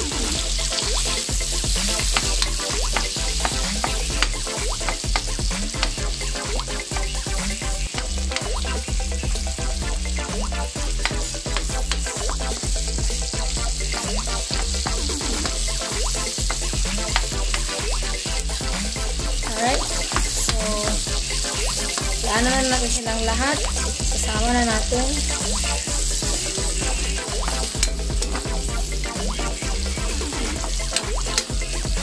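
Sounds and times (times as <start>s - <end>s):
background music with bass: 0.0s - 32.0s
garlic and onion sizzling: 0.0s - 32.0s.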